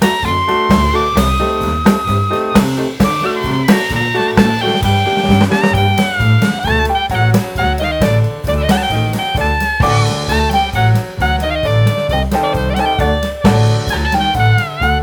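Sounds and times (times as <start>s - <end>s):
swing music with saxophone: 0.0s - 15.0s.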